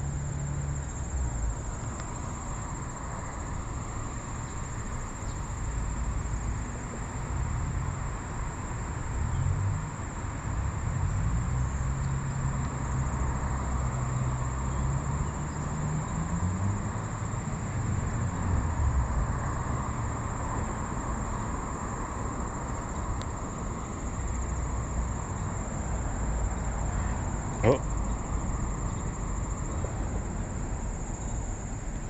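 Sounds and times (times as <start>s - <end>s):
insects droning: 0.0s - 32.0s
vehicle engine humming: 0.0s - 32.0s.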